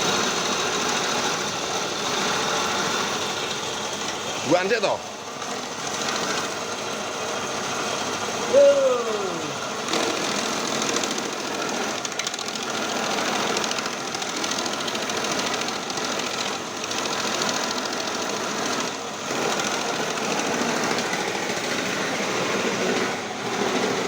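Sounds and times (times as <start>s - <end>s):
shredding machine clatter: 0.0s - 8.5s, 9.2s - 24.0s.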